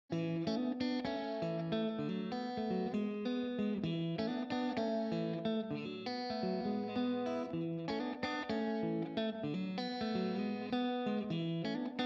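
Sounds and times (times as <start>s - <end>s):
guitar playing plucked notes: 0.1s - 12.0s.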